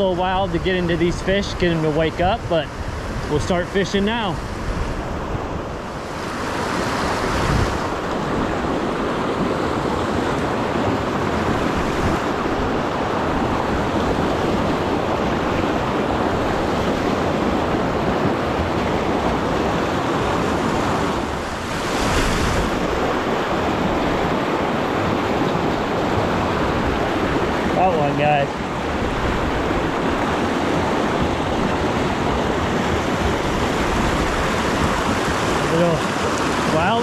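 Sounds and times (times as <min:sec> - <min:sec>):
mountain creek rushing: 0:00.0 - 0:37.0.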